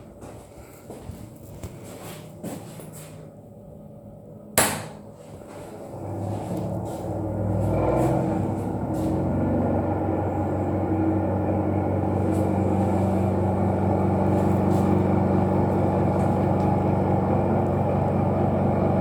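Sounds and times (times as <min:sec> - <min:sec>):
ventilation fan droning: 0:00.0 - 0:19.0.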